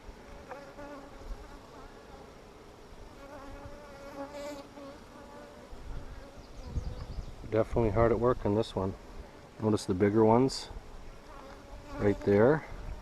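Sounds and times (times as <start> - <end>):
honeybees buzzing: 0.0 - 7.4, 8.8 - 13.0.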